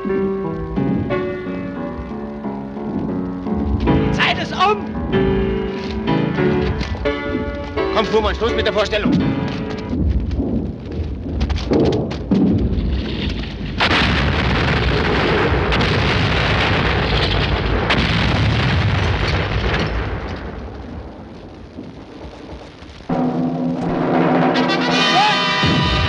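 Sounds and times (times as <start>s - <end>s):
low rumbling thuds: 0.0s - 4.2s, 4.8s - 24.7s
barrage of explosions and crackle: 0.0s - 26.0s.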